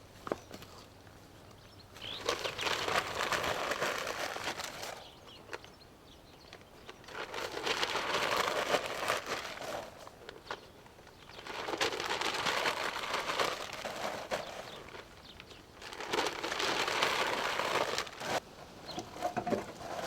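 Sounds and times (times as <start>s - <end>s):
crinkly handling noise: 0.0s - 20.0s.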